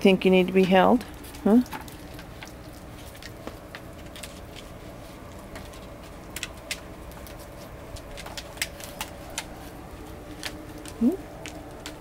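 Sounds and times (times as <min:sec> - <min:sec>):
faint steady hum: 0:00.0 - 0:12.0
puppy claws clicking on concrete: 0:00.5 - 0:12.0.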